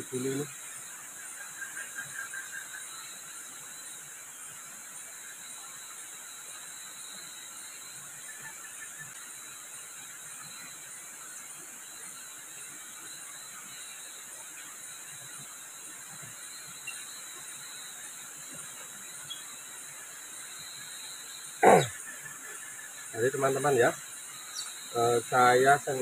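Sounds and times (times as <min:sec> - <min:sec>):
faint pulsing chirp: 0:00.0 - 0:26.0
night insects chorus: 0:00.0 - 0:26.0.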